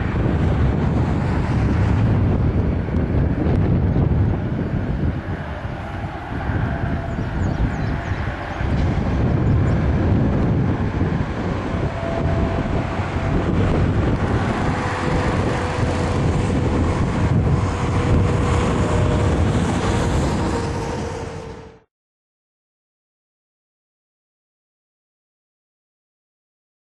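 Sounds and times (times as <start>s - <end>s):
distant highway traffic hum: 0.0s - 21.9s
wind noise on microphone: 0.0s - 21.9s.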